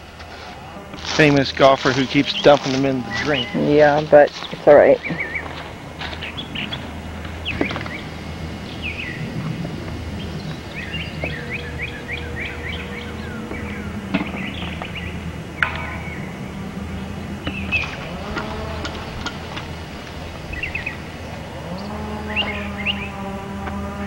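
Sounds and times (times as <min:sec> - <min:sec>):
steady low hum: 0:00.0 - 0:24.0
wild birds calling and singing: 0:00.0 - 0:24.0.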